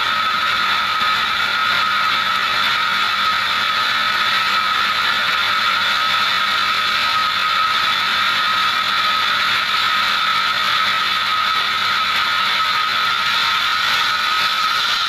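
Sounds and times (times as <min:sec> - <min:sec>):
band saw cutting log: 0:00.0 - 0:15.0
high saw whine: 0:00.0 - 0:15.0.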